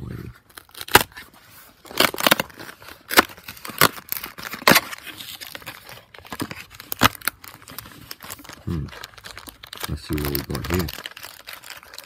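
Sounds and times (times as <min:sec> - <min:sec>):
cardboard box being torn open: 0:00.0 - 0:12.0.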